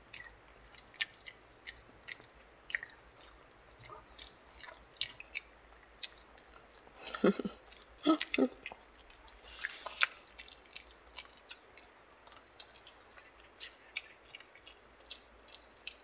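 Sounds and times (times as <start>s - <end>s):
dog chewing with wet smacks: 0.0s - 16.0s.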